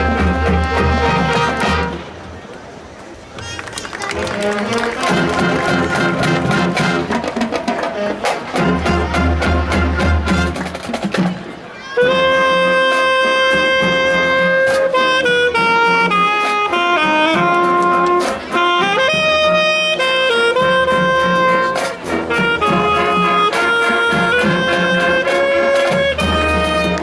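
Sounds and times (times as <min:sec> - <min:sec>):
brass and saxophones melody: 0:00.0 - 0:02.4, 0:03.6 - 0:27.0.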